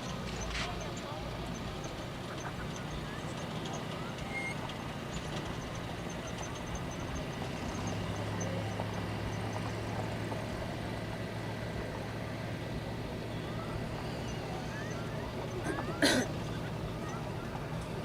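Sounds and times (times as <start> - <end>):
engine humming: 0.0 - 18.0
noisy background: 0.0 - 18.0.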